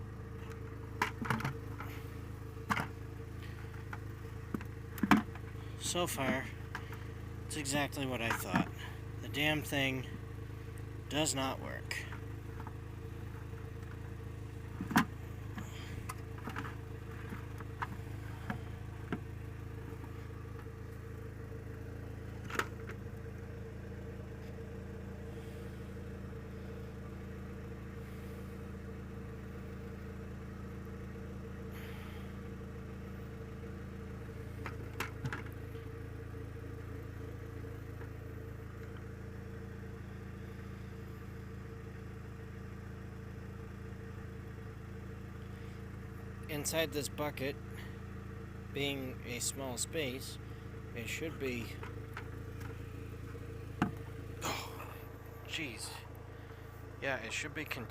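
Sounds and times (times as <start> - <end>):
engine idling: 0.0 - 57.9.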